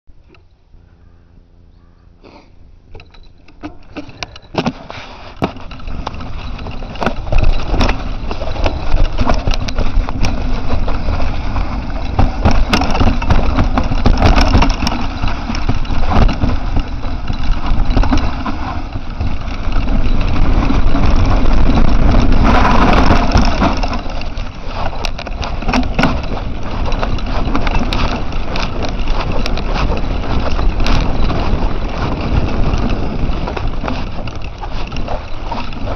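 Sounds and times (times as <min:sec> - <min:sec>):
bike rattling over roots: 0:02.9 - 0:35.9
wind noise: 0:03.1 - 0:35.9
bike tyres rumbling on trail: 0:03.5 - 0:35.9.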